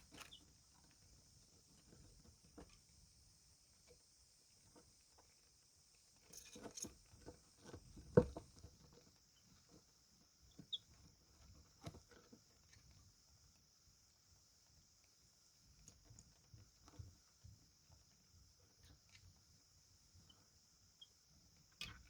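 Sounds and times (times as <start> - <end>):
chicks pecking and scratching: 0.0 - 3.8, 4.5 - 20.3.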